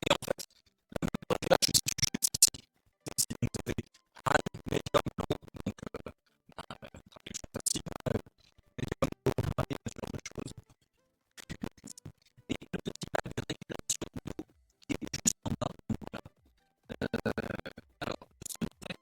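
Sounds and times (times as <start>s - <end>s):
rapid scratching and clicking: 0.0s - 19.0s.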